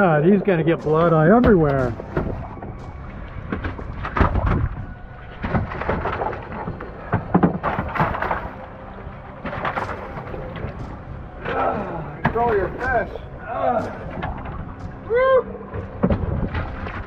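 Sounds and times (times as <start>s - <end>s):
fish thrashing on boat deck: 1.4s - 15.0s, 15.6s - 17.0s.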